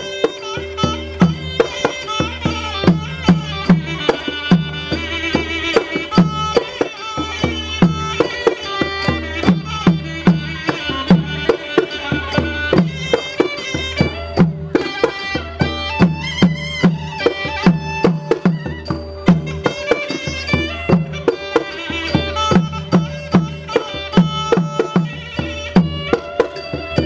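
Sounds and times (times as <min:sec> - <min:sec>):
hand drums beating: 0:00.0 - 0:27.0
wavering melody notes: 0:00.0 - 0:27.0.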